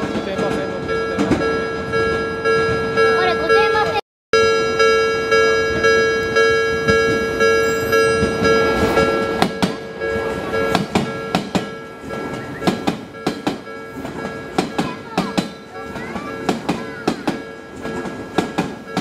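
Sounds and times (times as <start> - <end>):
train wheels clicking over rail joints: 0.0 - 3.4, 5.3 - 19.0
level crossing bell ringing: 0.3 - 19.0.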